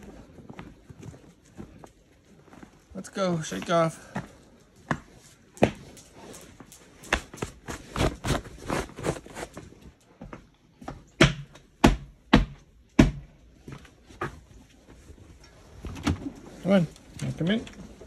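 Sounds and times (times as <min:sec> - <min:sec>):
footsteps on porch: 0:00.0 - 0:18.0.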